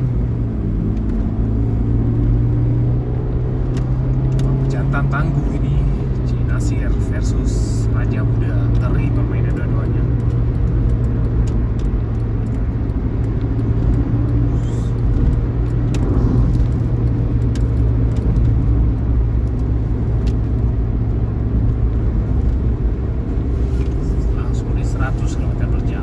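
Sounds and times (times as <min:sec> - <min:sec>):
bus engine drone: 0:00.0 - 0:26.0
road noise: 0:00.0 - 0:26.0.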